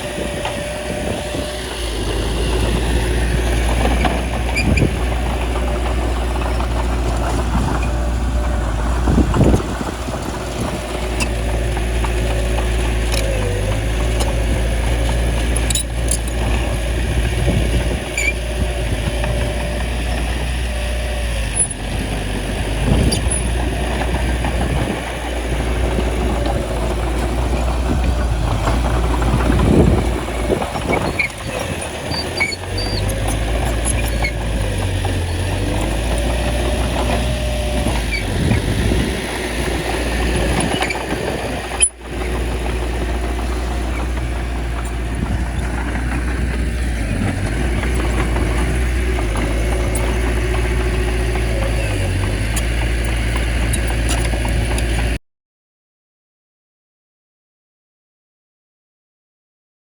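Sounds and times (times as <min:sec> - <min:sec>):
bulldozer diesel engine running: 0:00.0 - 0:55.2.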